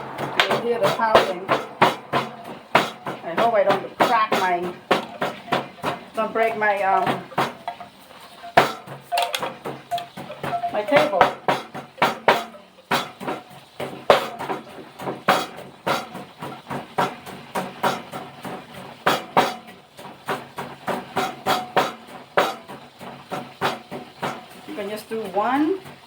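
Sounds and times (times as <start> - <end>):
chicken frying hiss: 0.0 - 26.0
pestle pounding in a mortar: 0.0 - 26.0.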